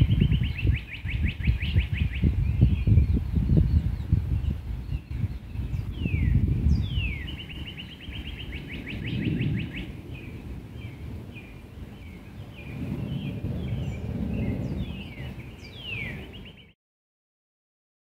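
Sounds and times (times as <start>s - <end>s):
songbird whistles and trill: 0.0s - 12.8s, 13.8s - 16.8s.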